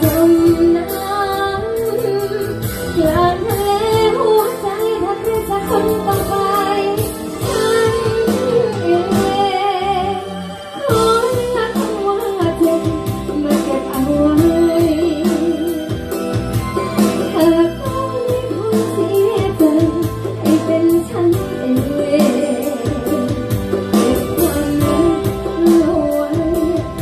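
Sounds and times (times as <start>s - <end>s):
song with a regular beat: 0.0s - 27.0s
woman singing: 0.0s - 27.0s.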